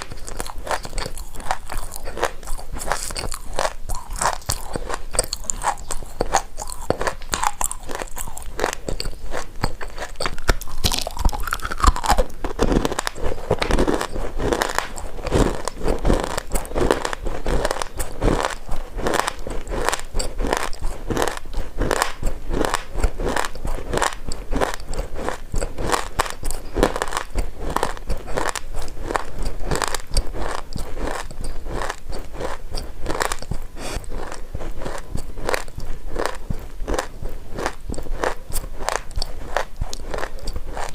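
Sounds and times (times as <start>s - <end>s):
person chewing crunchy soil: 0.0s - 40.9s.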